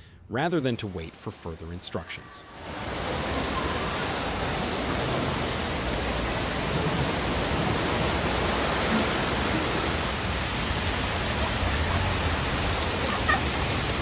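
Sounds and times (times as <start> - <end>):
running water: 0.6 - 14.0
torrential rain: 2.5 - 14.0.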